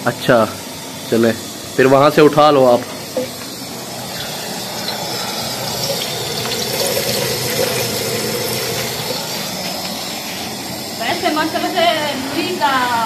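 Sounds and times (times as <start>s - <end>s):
onions sizzling in hot oil: 0.1s - 13.0s.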